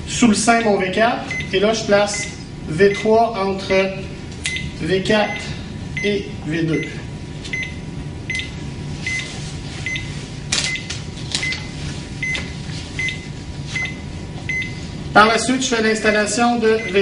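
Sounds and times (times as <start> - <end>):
cardiac monitor beeping: 1.2 - 17.0.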